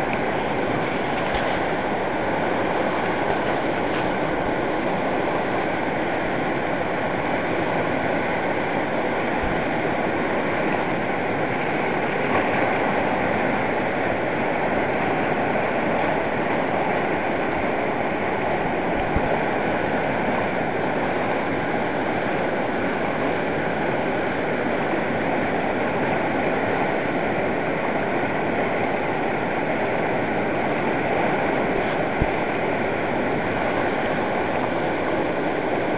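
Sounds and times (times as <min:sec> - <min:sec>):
river rushing over boulders: 0:00.0 - 0:35.9.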